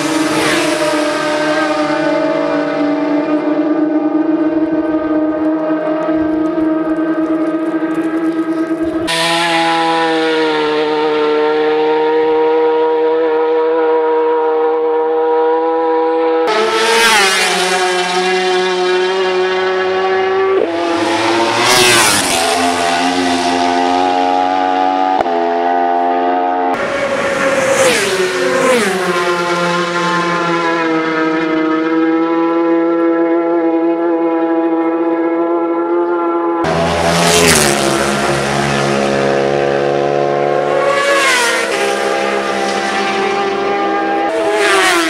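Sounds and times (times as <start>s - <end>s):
racing motorcycle engines revving: 0.0s - 45.0s.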